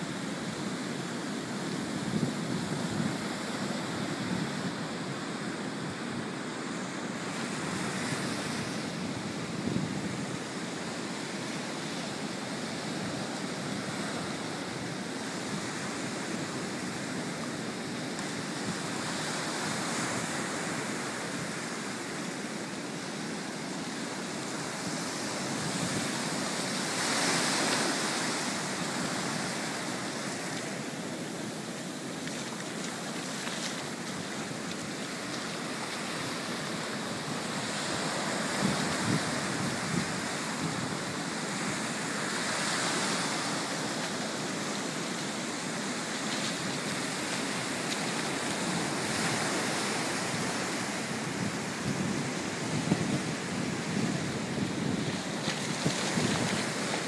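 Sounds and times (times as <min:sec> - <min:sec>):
surf washing up beach: 0:00.0 - 0:57.0.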